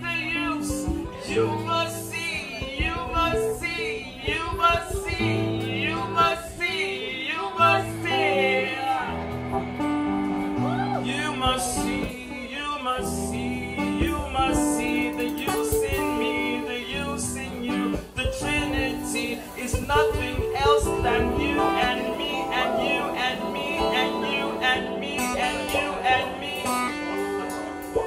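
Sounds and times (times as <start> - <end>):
acoustic guitar: 0.0 - 28.0
bass line: 0.0 - 28.0
drums: 0.0 - 28.0
keyboard: 0.0 - 28.0
person singing: 0.0 - 28.0.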